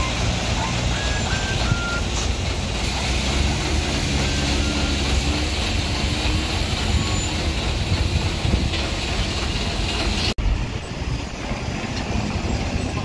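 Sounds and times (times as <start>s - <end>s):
heavy vehicle engine rumble: 0.0s - 13.0s.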